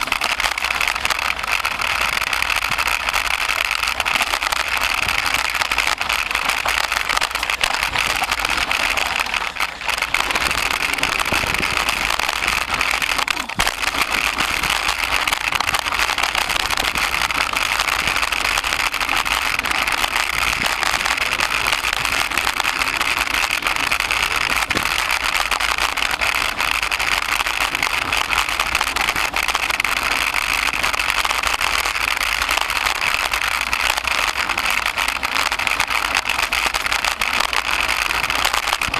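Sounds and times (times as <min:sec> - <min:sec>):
mountain bike rattling: 0:00.0 - 0:38.9.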